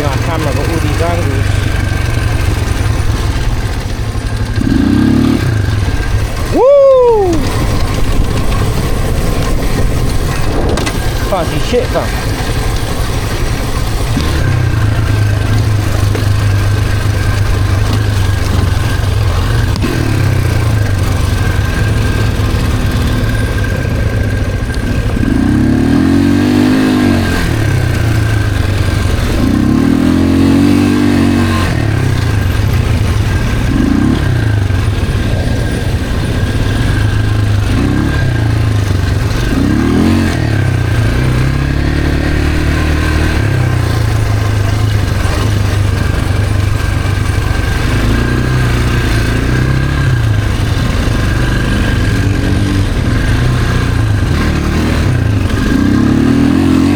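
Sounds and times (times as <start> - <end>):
atv engine revving: 0.0 - 56.9.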